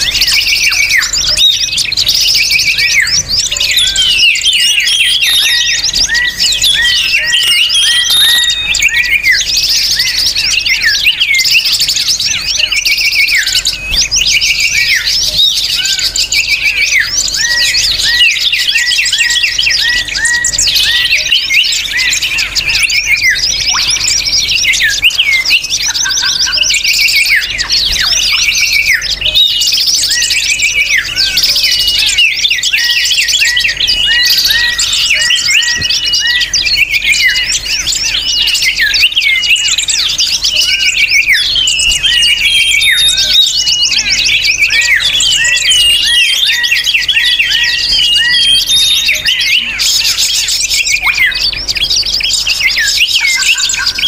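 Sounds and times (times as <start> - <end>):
many small birds chirping: 0.0 - 54.0.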